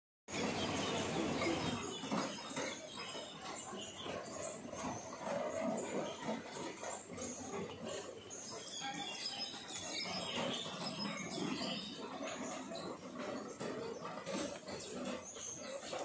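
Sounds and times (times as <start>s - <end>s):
small birds chirping: 0.3s - 16.0s
street noise: 0.3s - 16.0s.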